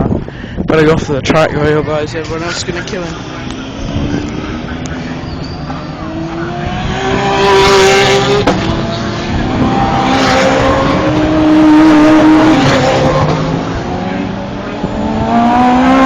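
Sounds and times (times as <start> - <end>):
race cars passing at speed: 2.4 - 16.0.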